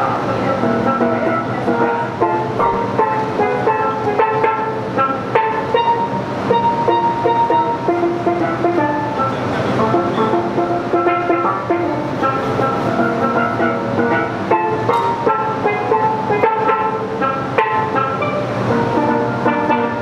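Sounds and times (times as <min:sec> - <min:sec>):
steel pan melody: 0:00.0 - 0:20.0.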